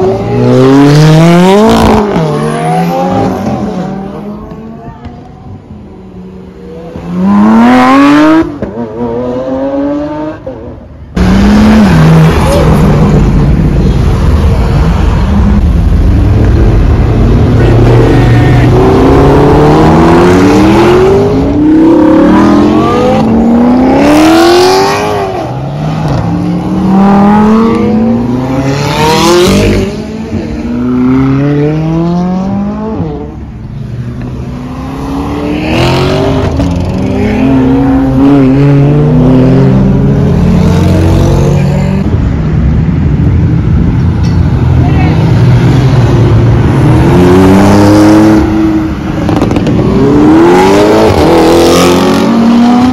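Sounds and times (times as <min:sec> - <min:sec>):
cars accelerating hard: 0:00.0 - 0:52.9
cars rushing past: 0:00.0 - 0:52.9.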